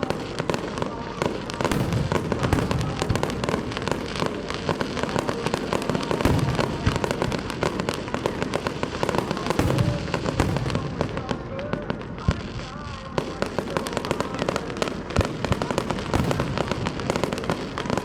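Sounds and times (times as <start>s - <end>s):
fireworks crackling and popping: 0.0s - 18.0s
fireworks low booms: 0.0s - 18.0s.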